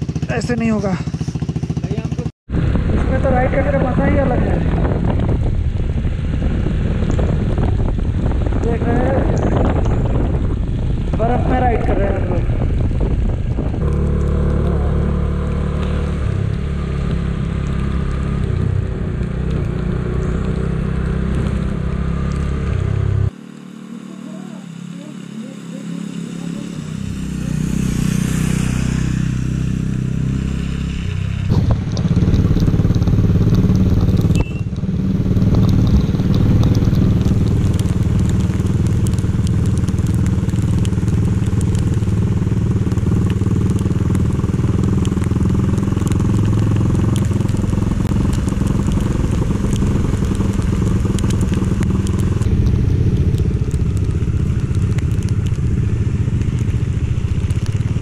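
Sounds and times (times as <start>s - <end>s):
motorcycle engine running: 0.0s - 58.0s
continuous crackling: 0.1s - 58.0s.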